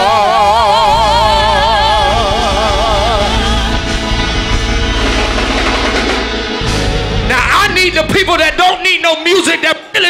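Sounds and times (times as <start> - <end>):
gospel band playing: 0.0 - 10.0.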